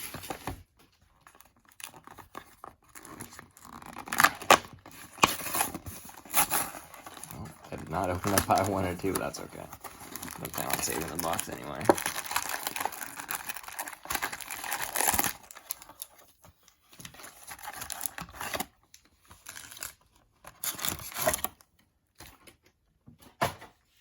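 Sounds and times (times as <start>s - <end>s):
plastic packaging crinkling: 0.0s - 21.6s
packaging ripping: 1.2s - 16.2s, 17.0s - 21.6s.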